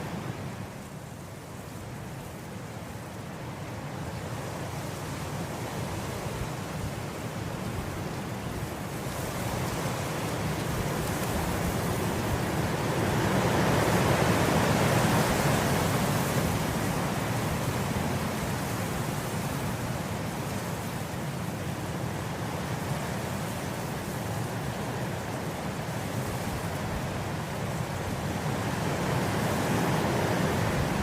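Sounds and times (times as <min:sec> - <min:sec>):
wind blowing through grass: 0:00.0 - 0:31.0.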